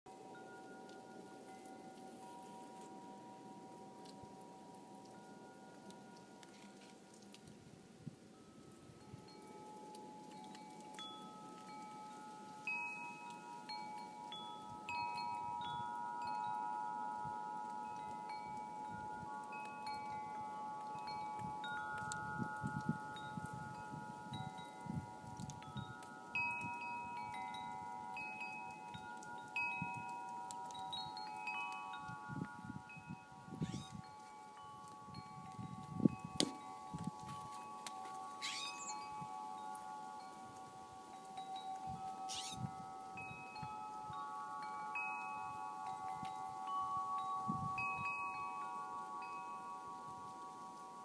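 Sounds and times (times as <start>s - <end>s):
wind chimes ringing: 0.1s - 7.1s, 8.2s - 51.0s.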